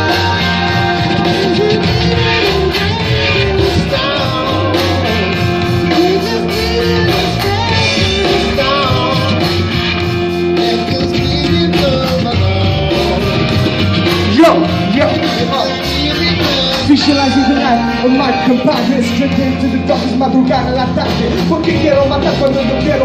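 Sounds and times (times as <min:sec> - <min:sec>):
guitar: 0:00.0 - 0:23.0
pulsing bass: 0:00.0 - 0:23.0
rock instrumental music: 0:00.0 - 0:23.0.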